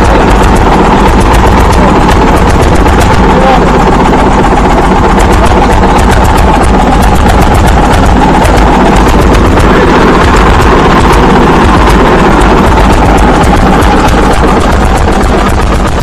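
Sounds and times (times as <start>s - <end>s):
small engine running with ticking: 0.0s - 16.0s.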